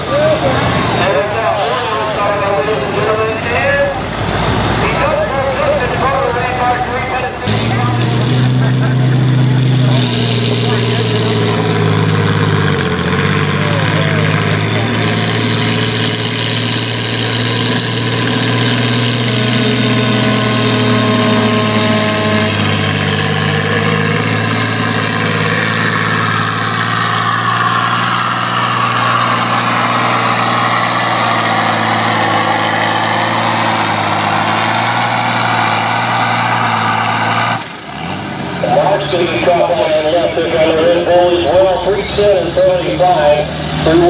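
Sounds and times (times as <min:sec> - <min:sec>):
tractor engine running hard: 0:00.0 - 0:44.0.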